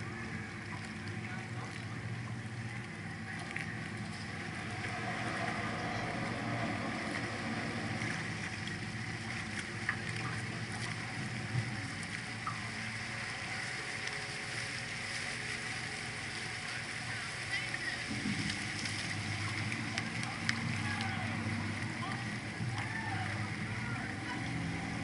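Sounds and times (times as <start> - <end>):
boat engine humming: 0.0 - 25.0
water wash: 0.0 - 25.0.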